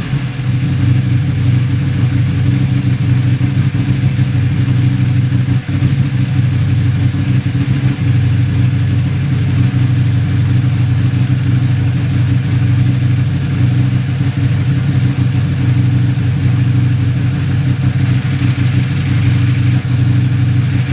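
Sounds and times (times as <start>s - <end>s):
motorcycle engine idling roughly: 0.0s - 20.9s.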